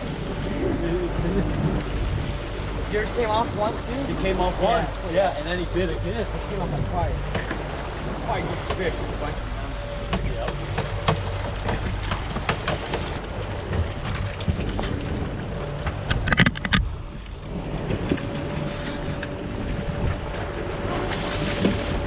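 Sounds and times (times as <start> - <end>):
outboard motor running: 0.0 - 22.0
sea noise: 0.0 - 22.0
wind: 0.0 - 22.0.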